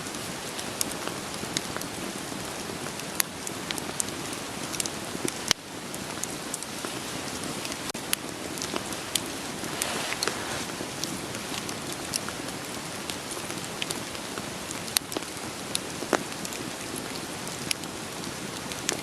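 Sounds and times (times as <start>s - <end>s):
steady rain hiss: 0.0s - 19.0s
firewood crackling and popping: 0.1s - 19.0s.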